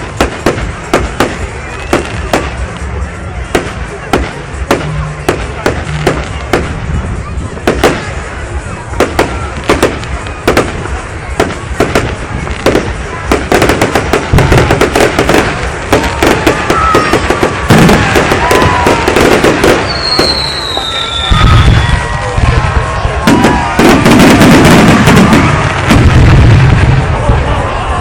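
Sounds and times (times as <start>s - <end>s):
heavy firework booms: 0.0s - 2.8s, 3.4s - 27.7s
firework whistles: 0.0s - 27.2s
fireworks crackling bangs: 0.0s - 28.0s.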